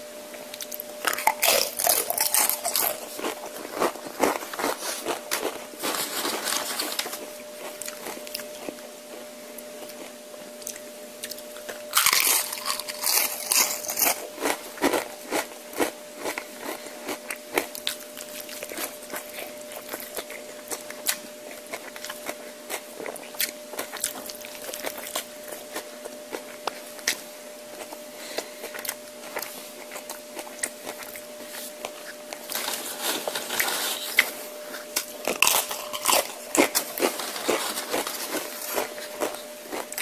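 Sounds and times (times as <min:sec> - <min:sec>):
faint steady hum: 0:00.0 - 0:40.0
chewing and crunching food: 0:00.3 - 0:40.0.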